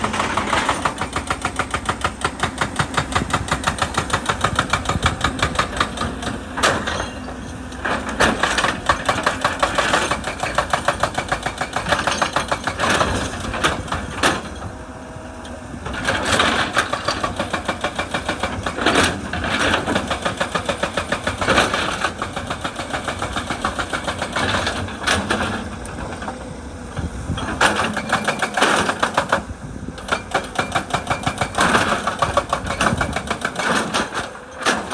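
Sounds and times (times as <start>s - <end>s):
hydraulic breaker pounding rock: 0.0s - 14.9s, 15.8s - 34.9s.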